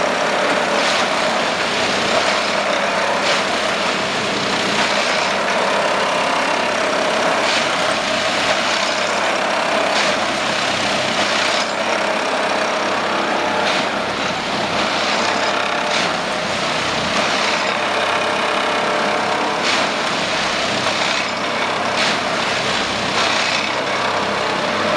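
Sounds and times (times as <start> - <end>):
diesel machinery din: 0.0 - 24.9
vibrating tamping tools: 0.0 - 24.9.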